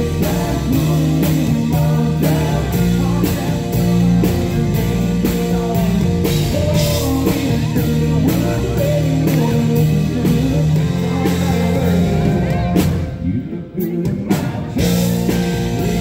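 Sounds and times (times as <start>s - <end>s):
drum kit beat: 0.0s - 13.2s, 13.8s - 16.0s
electric bass: 0.0s - 16.0s
person singing lead vocal: 0.0s - 16.0s.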